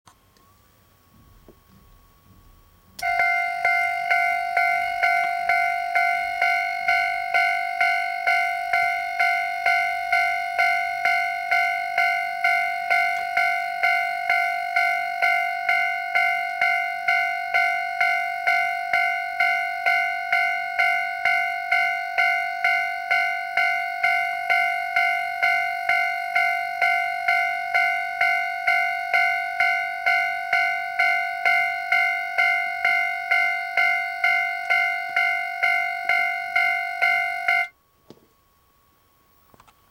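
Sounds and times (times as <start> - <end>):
electronic crossing bell dings: 3.0 - 37.8.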